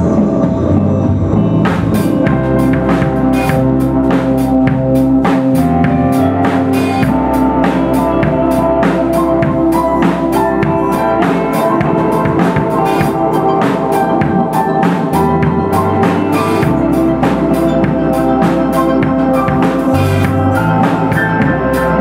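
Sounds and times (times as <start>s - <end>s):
drum-kit beat: 0.0s - 22.0s
held chords: 0.0s - 22.0s.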